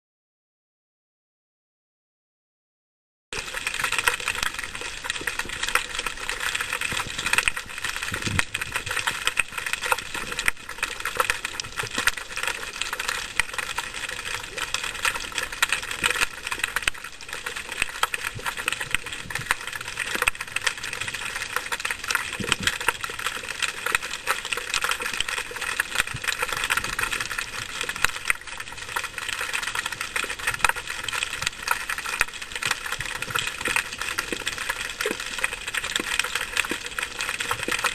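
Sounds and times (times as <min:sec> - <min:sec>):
underwater crackling clicks: 0:03.4 - 0:37.9.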